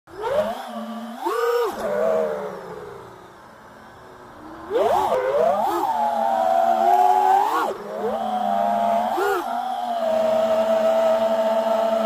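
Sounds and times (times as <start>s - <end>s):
quadcopter motors whining: 0.1s - 12.0s.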